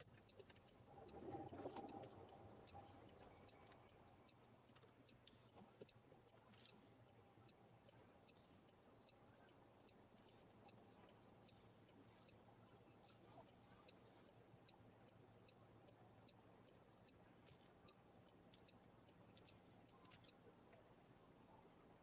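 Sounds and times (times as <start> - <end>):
car turn signal ticking: 0.0 - 20.4
road and cabin hum: 0.0 - 22.0.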